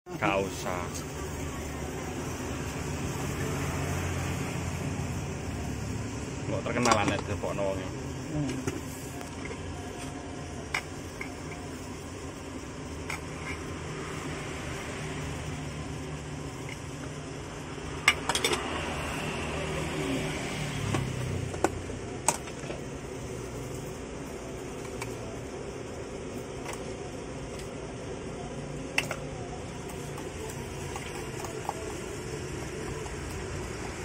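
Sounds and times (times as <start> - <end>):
steady mechanical hum: 0.1 - 34.0.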